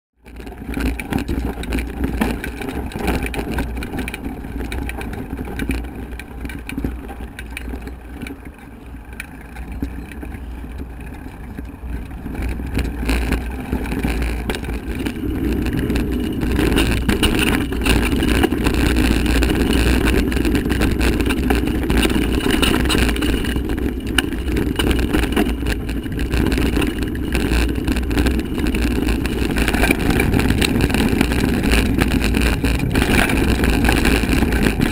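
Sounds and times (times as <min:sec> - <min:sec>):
bike rattles and knocks: 0:00.2 - 0:34.9
bike tyre noise: 0:00.2 - 0:34.9
wind buffeting microphone: 0:00.6 - 0:34.9.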